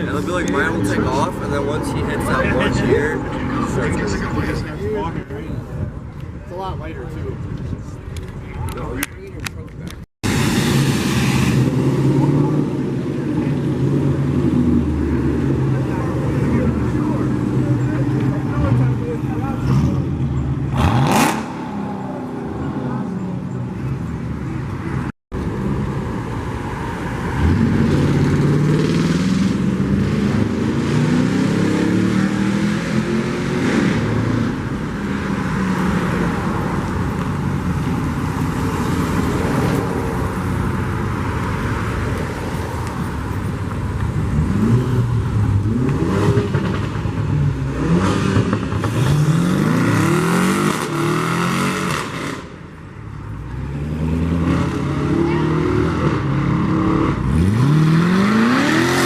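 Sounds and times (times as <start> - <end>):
car engines revving and accelerating: 0.0 - 9.0, 10.3 - 59.0.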